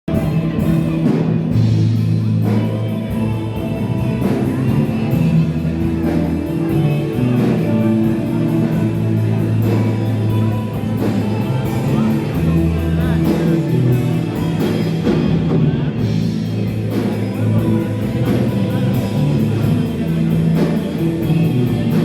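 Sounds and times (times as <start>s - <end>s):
rock music: 0.0s - 22.0s.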